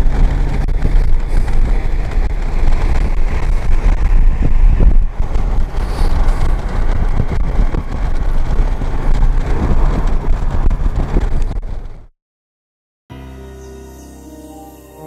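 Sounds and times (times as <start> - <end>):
motorcycle engine and road rumble: 0.0 - 12.1.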